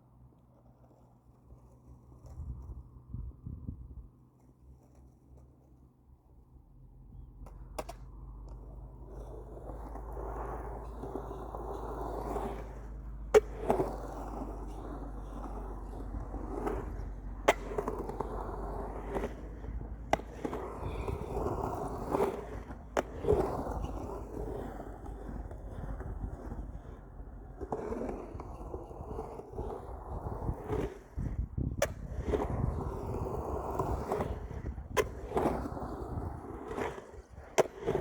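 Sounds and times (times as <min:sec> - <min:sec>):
skateboard wheels rolling: 0:00.0 - 0:38.0
skateboard clacks: 0:07.4 - 0:38.0.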